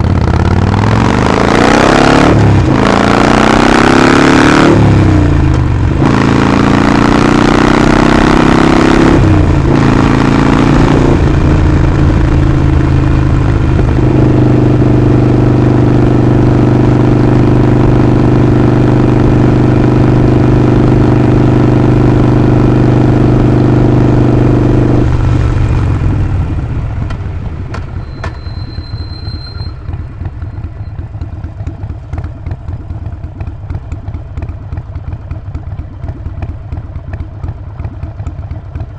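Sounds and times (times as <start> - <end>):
motorcycle engine accelerating and idling: 0.0 - 38.9.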